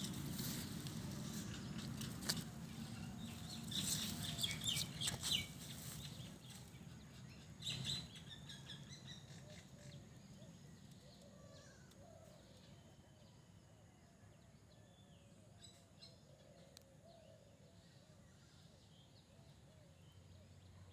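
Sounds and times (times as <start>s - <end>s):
faint birds chirping: 0.0s - 20.9s.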